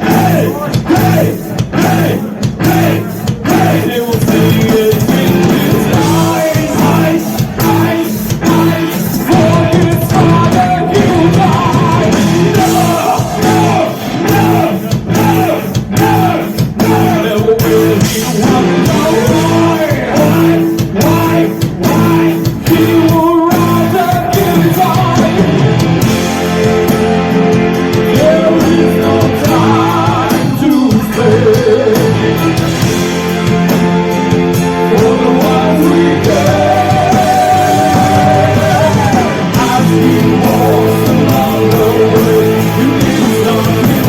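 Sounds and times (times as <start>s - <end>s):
bass: 0.0s - 44.0s
distorted electric guitars: 0.0s - 44.0s
drums: 0.0s - 44.0s
person singing: 0.0s - 44.0s.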